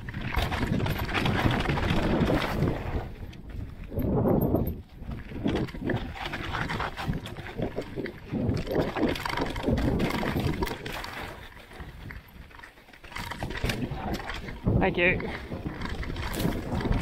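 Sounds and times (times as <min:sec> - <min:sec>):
wind rushing over microphone: 0:00.0 - 0:12.5, 0:13.1 - 0:17.0
bike rattling and knocking: 0:00.0 - 0:17.0
bike tyres rolling on dirt: 0:00.0 - 0:17.0.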